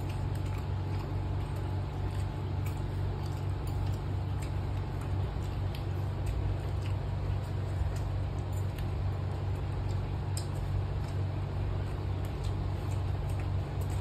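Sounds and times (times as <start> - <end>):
low mechanical hum: 0.0 - 14.0
people eating by hand: 0.0 - 14.0.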